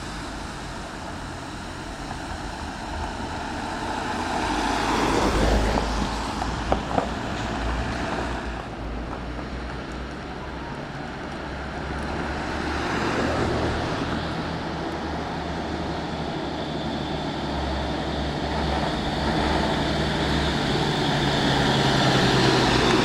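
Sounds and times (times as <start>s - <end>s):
road vehicles driving past: 0.0s - 23.0s.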